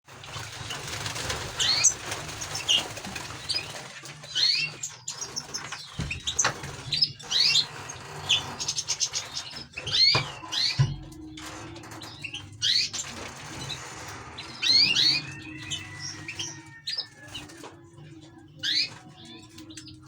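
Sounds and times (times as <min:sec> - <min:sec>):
wings fluttering: 0:00.1 - 0:20.0
finches chirping and singing: 0:00.3 - 0:20.0.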